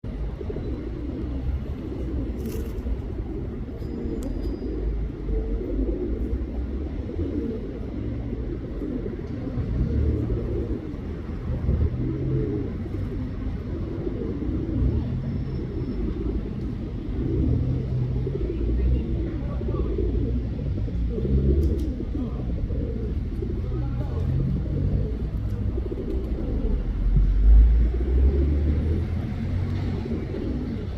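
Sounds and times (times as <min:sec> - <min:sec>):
pigeon cooing: 0:00.0 - 0:30.9.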